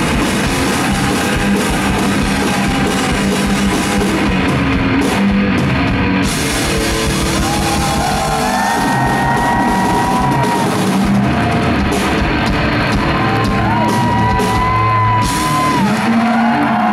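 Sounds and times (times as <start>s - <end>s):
drum kit played hard: 0.0s - 16.9s
electric guitar: 0.0s - 16.9s.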